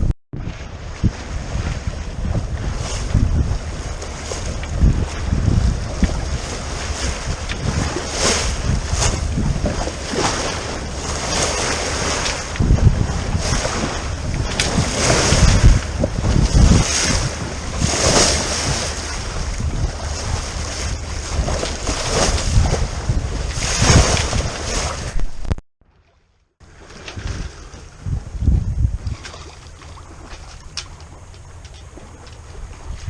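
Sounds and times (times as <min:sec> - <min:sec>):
wind buffeting microphone: 0:00.0 - 0:25.6, 0:26.7 - 0:33.0
water rushing along hull: 0:00.0 - 0:33.0.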